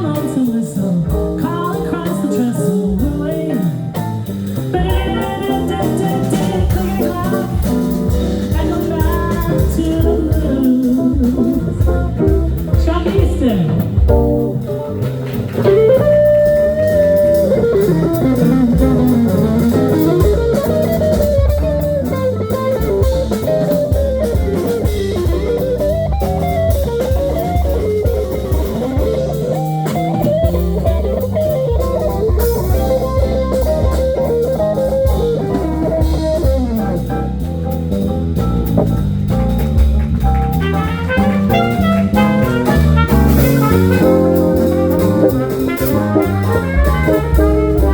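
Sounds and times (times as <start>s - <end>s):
blues band playing: 0.0s - 47.9s.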